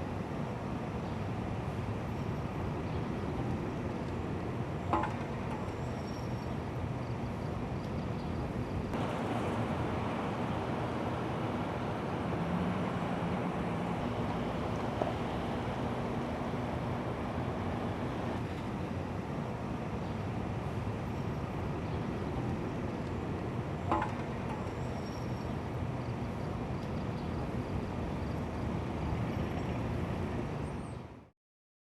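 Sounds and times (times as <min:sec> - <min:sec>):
steady mechanical rumble: 0:00.0 - 0:31.2.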